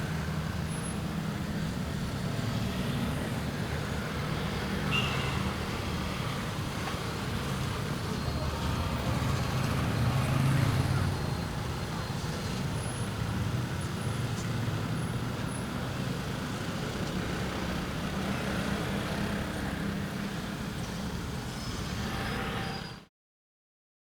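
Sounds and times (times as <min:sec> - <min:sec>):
slow street traffic rumble: 0:00.0 - 0:23.1.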